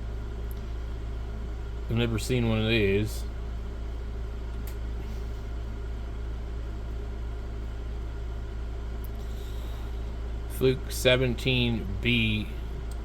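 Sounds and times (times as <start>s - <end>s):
low-pitched background hum: 0.0s - 13.0s.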